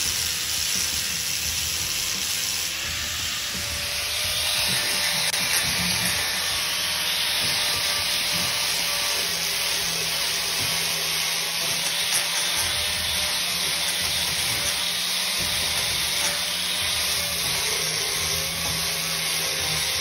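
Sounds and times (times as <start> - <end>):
angle grinder grinding paint: 0.0 - 20.0.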